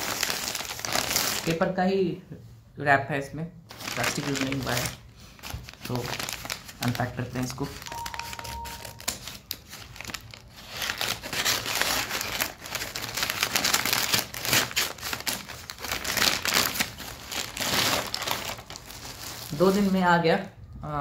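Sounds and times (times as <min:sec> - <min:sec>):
paper crinkling and rustling: 0:00.0 - 0:01.5, 0:03.7 - 0:20.0.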